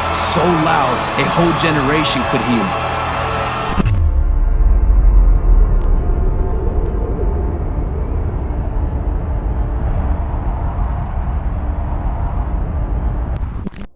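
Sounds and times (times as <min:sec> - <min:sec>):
loud low rumble: 0:00.0 - 0:13.6.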